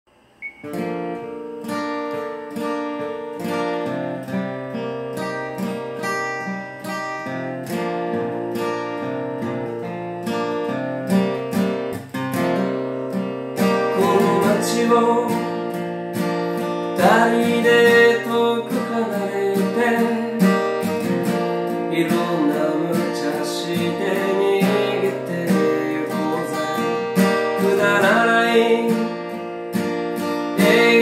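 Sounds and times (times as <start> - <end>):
acoustic guitar strumming chords: 0.1 - 31.0.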